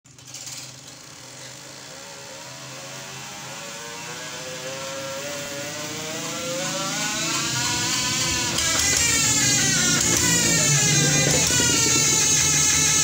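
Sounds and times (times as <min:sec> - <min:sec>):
diesel engine revving up: 0:01.6 - 0:13.0.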